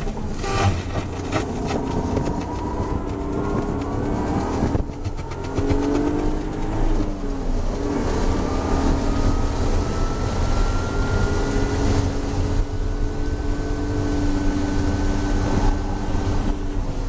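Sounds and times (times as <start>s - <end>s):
car engine pulling hard: 0.0s - 17.0s
road and tyre rumble: 0.0s - 17.0s.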